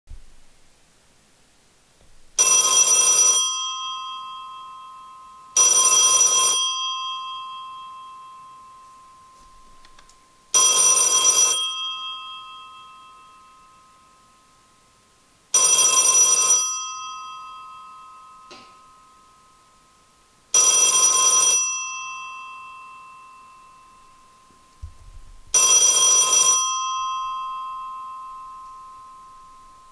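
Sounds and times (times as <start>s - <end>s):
telephone bell ringing: 2.4s - 14.0s, 15.5s - 19.2s, 20.5s - 24.7s, 25.5s - 29.9s.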